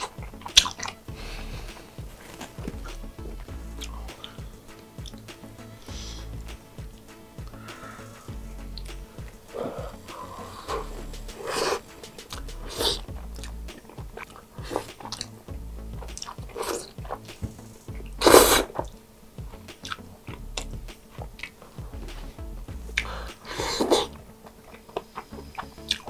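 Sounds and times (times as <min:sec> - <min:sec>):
chewing and slurping: 0:00.0 - 0:17.3, 0:19.8 - 0:26.0.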